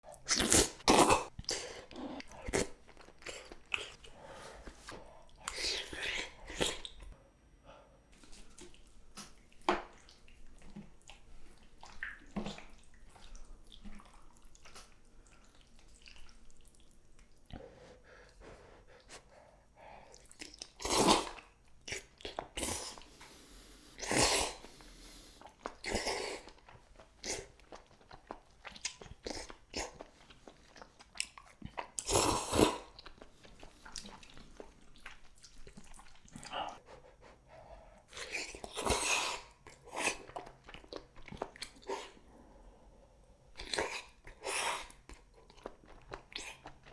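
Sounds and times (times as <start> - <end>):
close chewing and biting: 0.0 - 7.2, 8.1 - 42.6, 43.5 - 46.9.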